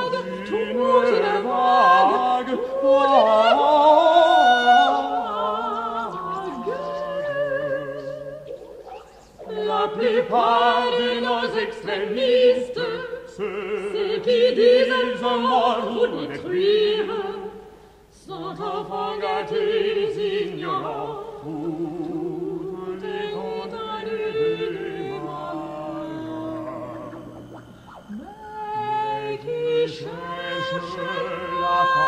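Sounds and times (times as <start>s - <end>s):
operatic voices singing together: 0.0s - 32.0s.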